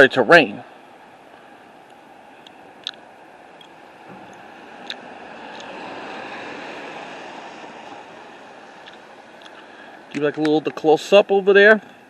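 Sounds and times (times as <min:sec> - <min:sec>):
vehicle tyre and road noise: 0:00.0 - 0:12.0.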